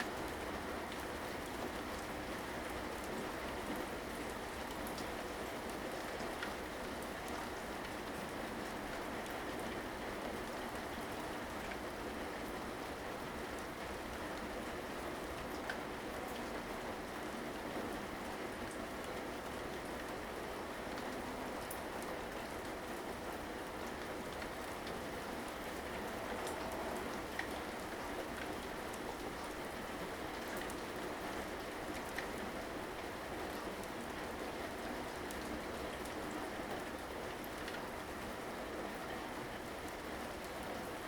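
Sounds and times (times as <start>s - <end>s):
steady rainfall: 0.0s - 41.0s.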